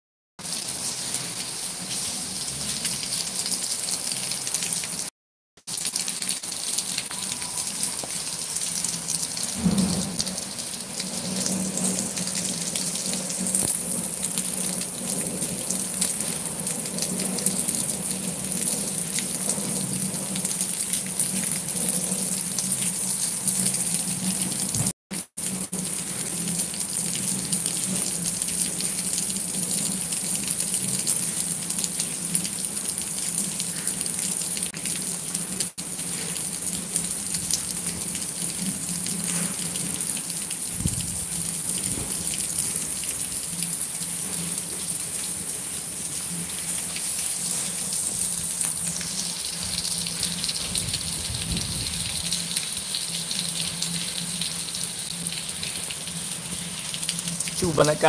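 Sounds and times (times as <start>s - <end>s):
heavy rain on roofs and concrete: 0.4s - 58.0s.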